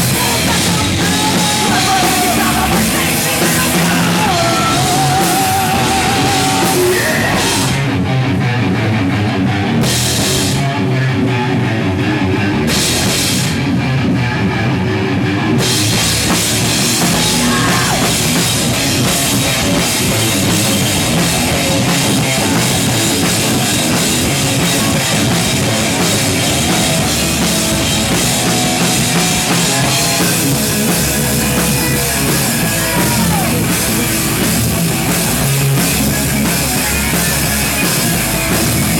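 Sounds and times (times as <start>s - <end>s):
bass: 0.0s - 38.9s
distorted electric guitar: 0.0s - 38.9s
drum kit: 0.0s - 38.9s.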